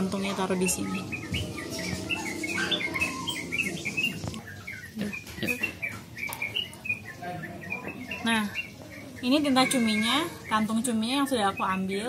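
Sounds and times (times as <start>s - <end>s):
small birds chirping rapidly: 0.0s - 12.0s.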